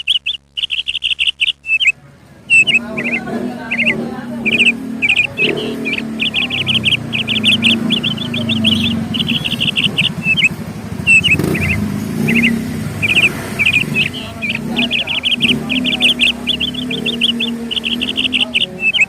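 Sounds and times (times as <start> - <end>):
small songbirds chirping: 0.0 - 19.0
steady low rumble: 0.0 - 19.0.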